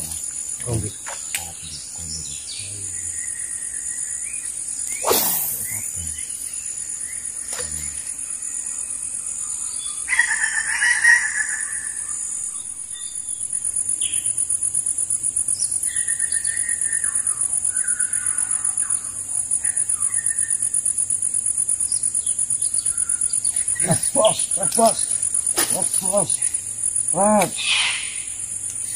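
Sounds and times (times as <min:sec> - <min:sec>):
bird calls: 0:00.0 - 0:14.4, 0:15.5 - 0:21.2, 0:21.8 - 0:28.9
insect drone pulsing: 0:00.0 - 0:28.9.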